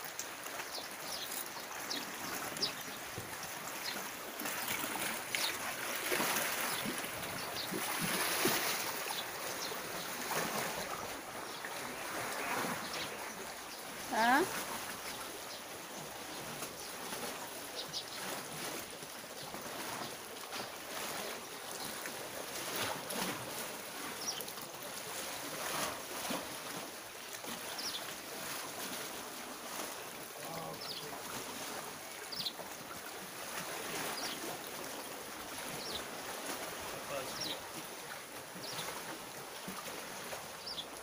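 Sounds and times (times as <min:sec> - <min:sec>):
sea waves: 0:00.0 - 0:41.0
wind: 0:00.0 - 0:41.0.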